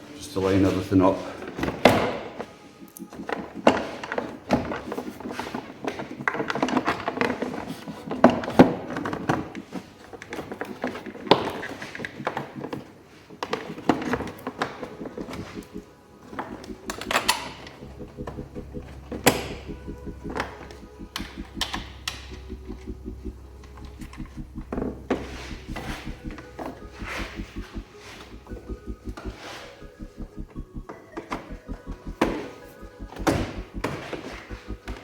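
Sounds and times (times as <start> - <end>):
background music: 0.0 - 35.0.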